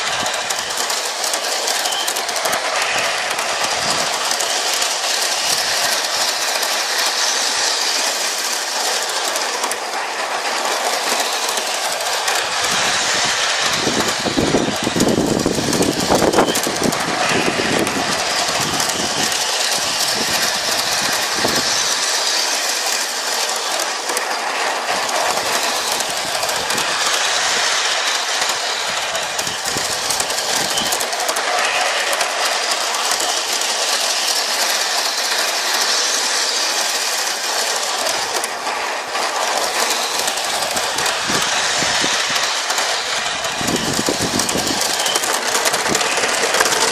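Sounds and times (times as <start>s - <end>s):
model train wheels clattering: 0.0s - 46.9s.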